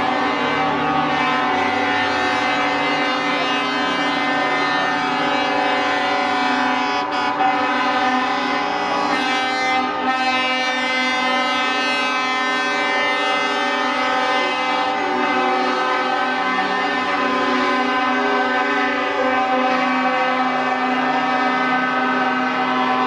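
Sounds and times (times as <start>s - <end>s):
truck air horns blaring: 0.0s - 23.0s.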